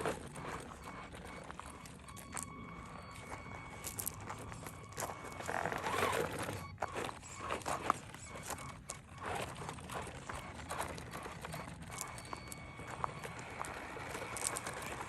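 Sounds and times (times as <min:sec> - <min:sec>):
crunching on loose gravel: 0:00.0 - 0:15.0.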